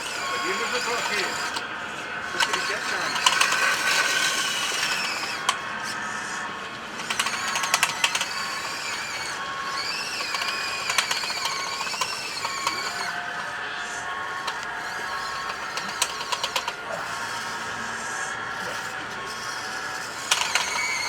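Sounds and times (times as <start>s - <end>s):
quick clicks: 0.0s - 1.7s, 2.3s - 6.1s, 6.9s - 17.5s, 20.0s - 21.0s
electric motors whining: 0.0s - 21.0s.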